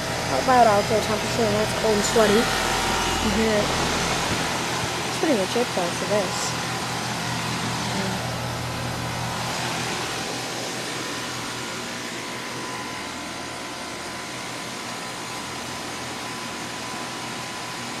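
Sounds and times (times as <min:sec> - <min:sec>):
compressor humming: 0:00.0 - 0:18.0
condenser fan whooshing: 0:00.0 - 0:18.0.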